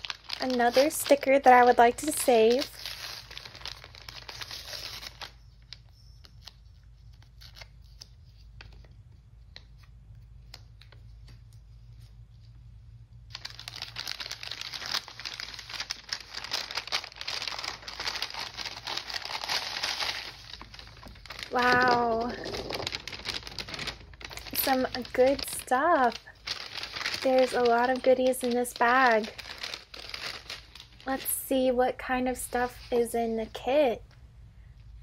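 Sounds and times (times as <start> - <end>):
paper crinkling and rustling: 0.0 - 12.5, 13.3 - 31.4.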